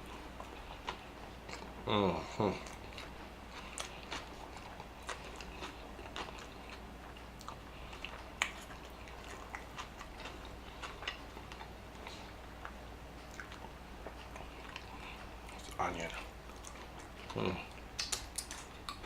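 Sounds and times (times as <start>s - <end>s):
close chewing food: 0.0s - 19.0s.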